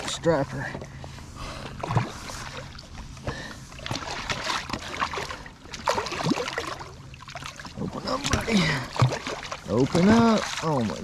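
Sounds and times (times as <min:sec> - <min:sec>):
water splashing and slapping: 0:00.0 - 0:11.0.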